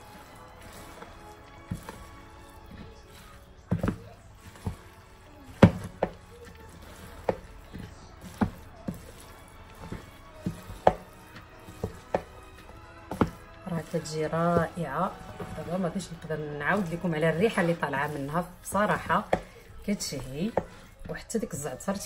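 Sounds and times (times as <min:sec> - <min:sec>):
wooden spoon mixing in bowl: 0:00.0 - 0:22.0.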